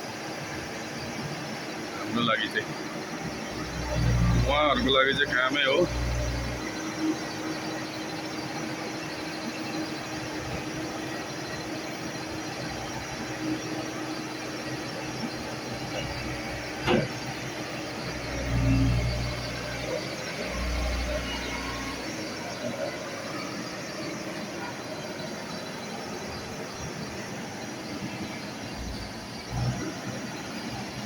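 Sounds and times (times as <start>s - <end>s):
excavator engine: 0.0s - 31.0s.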